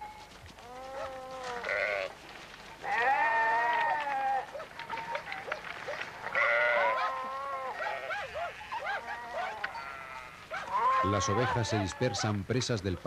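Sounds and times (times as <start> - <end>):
sheep bleating: 0.0 - 2.2, 2.8 - 5.4, 6.2 - 12.3.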